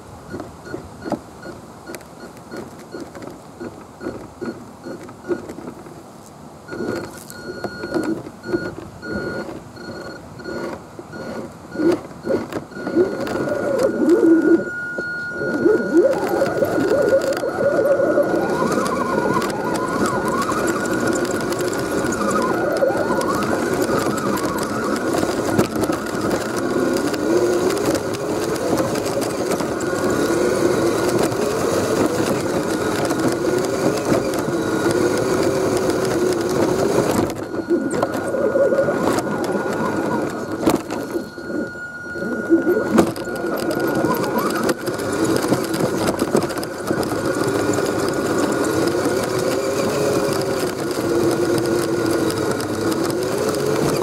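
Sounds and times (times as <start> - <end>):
electric motor and gears whining: 0.3 - 5.8, 6.7 - 54.0
thin steady high whine: 6.6 - 54.0.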